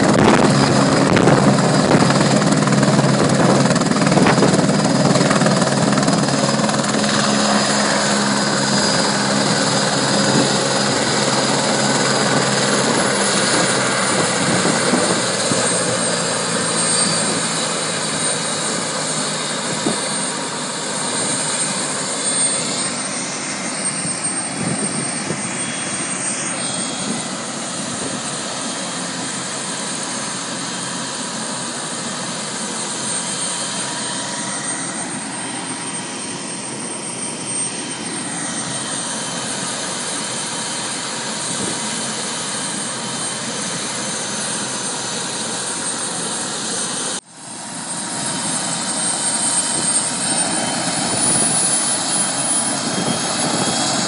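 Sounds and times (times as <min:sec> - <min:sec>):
helicopter turbine and rotor: 0:00.0 - 0:54.0.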